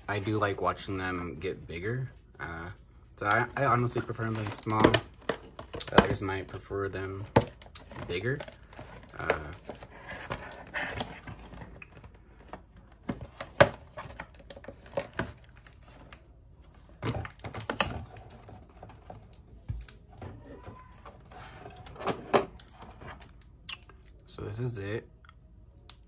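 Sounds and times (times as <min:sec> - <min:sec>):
plastic packaging clicking and crackling: 0:03.2 - 0:24.1.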